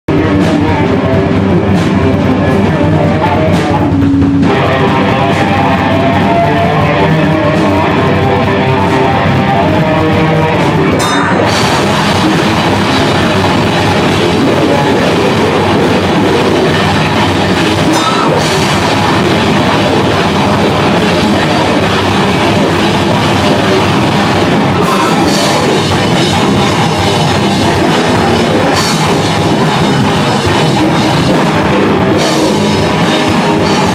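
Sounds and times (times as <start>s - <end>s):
live rock band playing: 0.1s - 33.9s.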